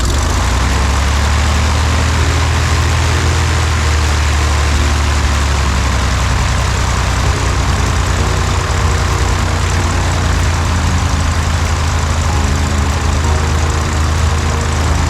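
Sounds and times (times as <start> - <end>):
plane engine idling: 0.0 - 15.0.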